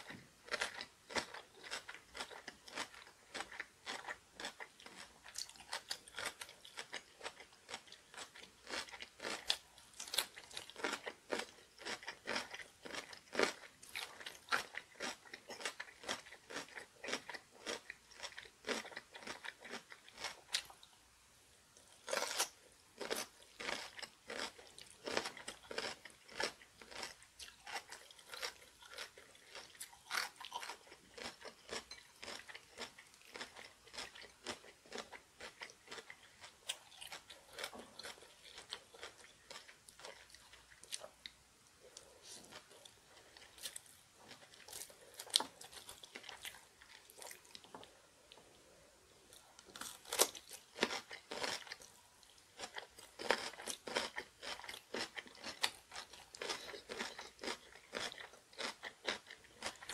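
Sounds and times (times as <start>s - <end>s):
crunching and chewing: 0.0s - 21.0s, 21.8s - 48.5s, 49.3s - 59.9s.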